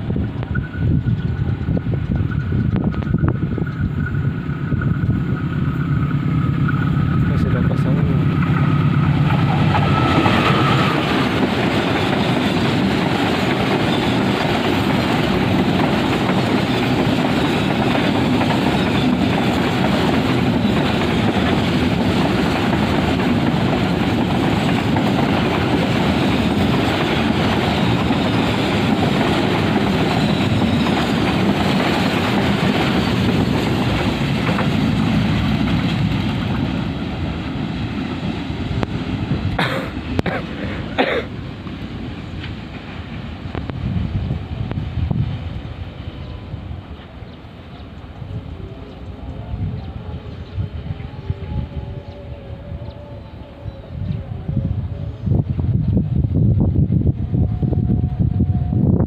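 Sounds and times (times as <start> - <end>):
train wheels on rails: 0.0 - 53.6.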